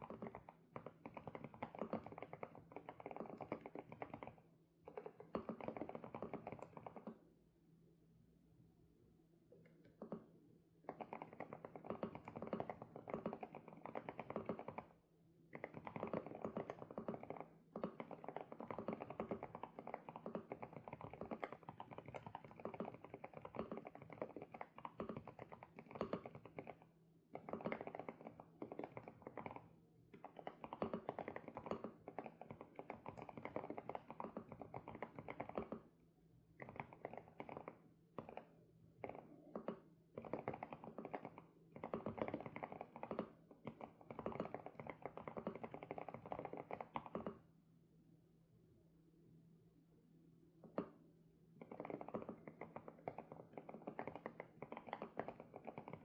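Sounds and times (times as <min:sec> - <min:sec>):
fast mechanical keyboard typing: 0:00.0 - 0:07.2, 0:10.9 - 0:14.9, 0:15.6 - 0:35.8, 0:36.6 - 0:47.3, 0:51.6 - 0:56.0.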